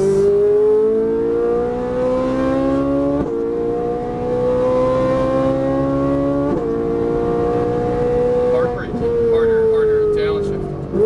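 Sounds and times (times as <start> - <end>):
car engine accelerating with upshifts: 0.0 - 11.0.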